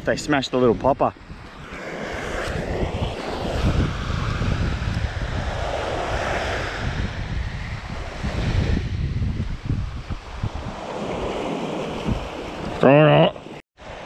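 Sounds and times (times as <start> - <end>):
wind buffeting microphone: 0.0 - 12.8
small waves breaking on sand: 1.8 - 8.8, 9.5 - 14.0.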